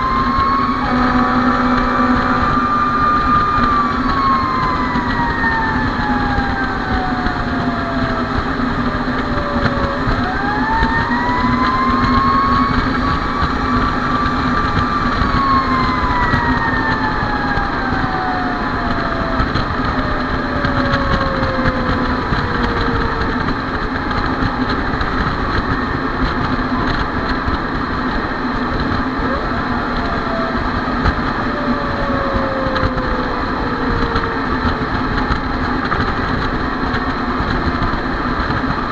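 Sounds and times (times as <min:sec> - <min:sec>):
fire engine siren wailing: 0:00.0 - 0:38.9
truck engine: 0:00.0 - 0:38.9.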